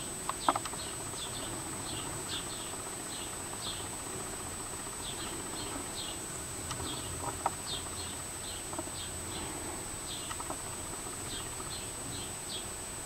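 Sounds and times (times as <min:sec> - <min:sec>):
sparrows chirping: 0:00.0 - 0:12.8.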